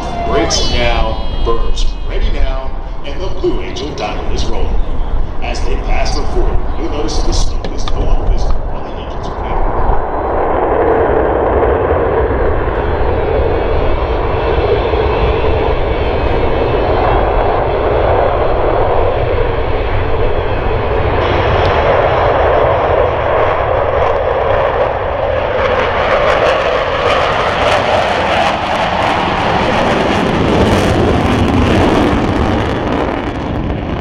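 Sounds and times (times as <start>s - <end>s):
jet engines running loud: 0.0s - 34.0s.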